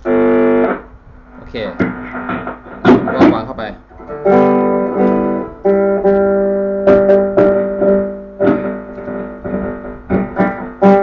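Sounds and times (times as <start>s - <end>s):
electric guitar notes through amplifier: 0.0s - 11.0s.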